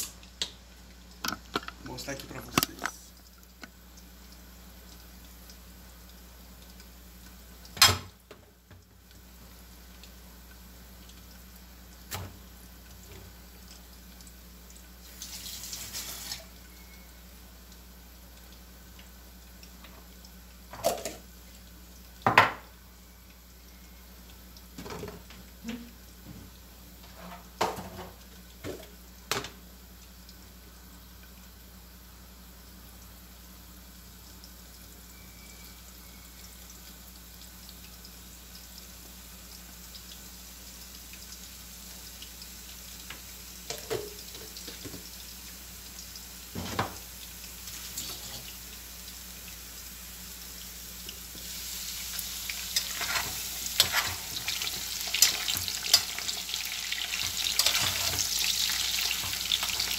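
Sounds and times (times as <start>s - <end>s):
water running from tap: 0.0s - 31.7s, 32.6s - 59.9s.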